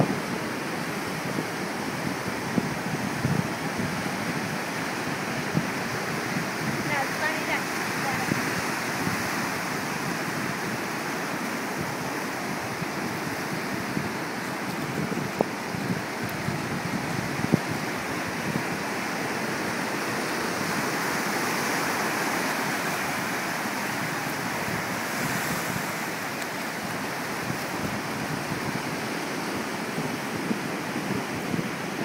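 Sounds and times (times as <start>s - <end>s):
ocean surf breaking: 0.0s - 32.0s
wind buffeting the microphone: 0.0s - 32.0s.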